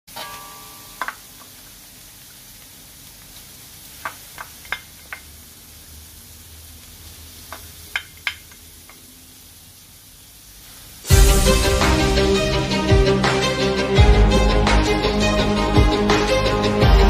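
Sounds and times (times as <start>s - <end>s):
meat sizzling in a wok: 0.1s - 17.0s.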